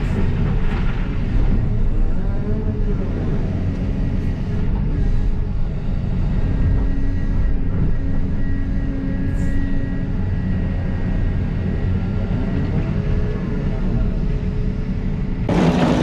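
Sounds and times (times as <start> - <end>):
faint hydraulic whine: 0.0 - 15.5
excavator engine rumbling: 0.0 - 16.0.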